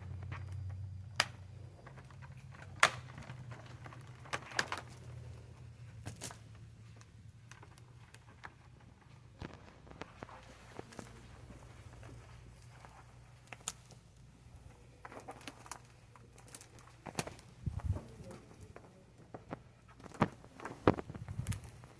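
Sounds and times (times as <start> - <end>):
faint low hum: 0.0 - 21.9.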